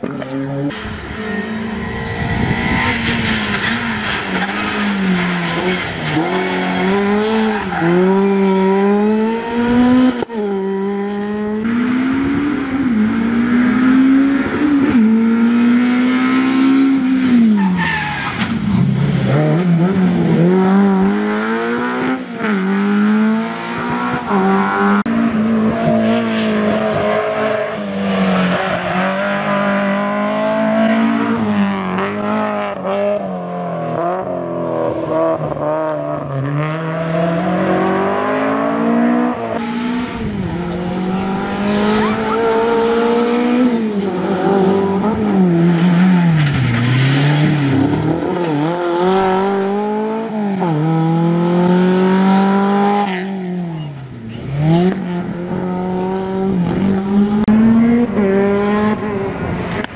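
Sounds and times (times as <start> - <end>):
racing car engines revving hard: 0.0 - 59.9.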